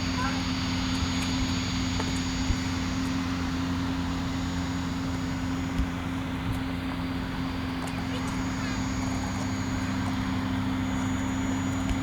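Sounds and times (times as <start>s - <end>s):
propeller aircraft engine drone: 0.0s - 12.0s.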